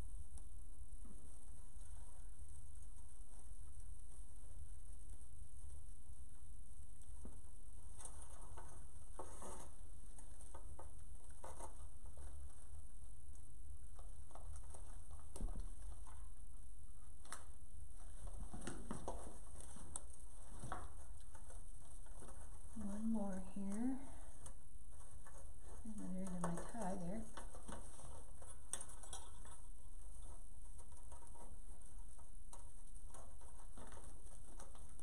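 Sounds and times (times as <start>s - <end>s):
mesh rustling and crinkling: 0.0s - 35.0s.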